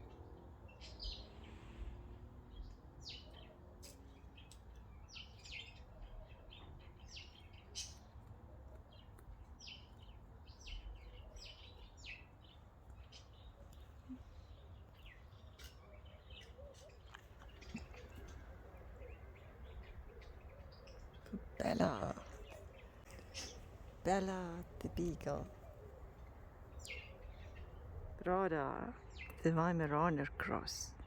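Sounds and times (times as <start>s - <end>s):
small birds chirping faintly: 0.0s - 31.0s.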